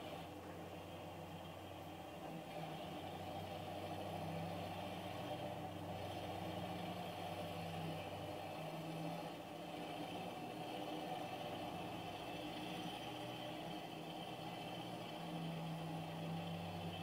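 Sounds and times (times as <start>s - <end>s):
bus driving past: 0.0s - 17.0s
tractor engine: 0.0s - 17.0s.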